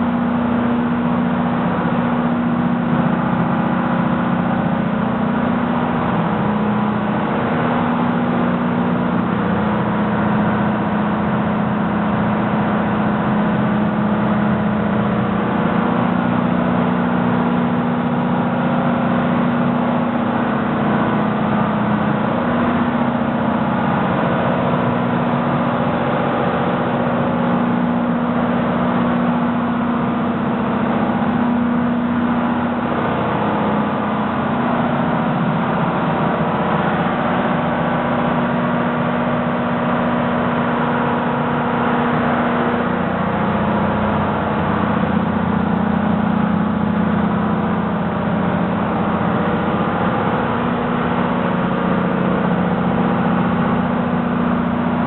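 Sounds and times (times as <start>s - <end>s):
engine room machinery drone: 0.0s - 55.0s.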